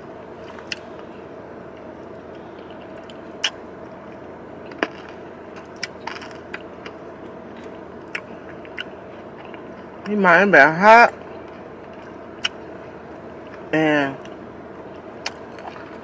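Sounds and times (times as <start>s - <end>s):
car interior hum: 0.0s - 16.0s
crunchy eating clicks: 0.4s - 10.2s, 11.1s - 16.0s.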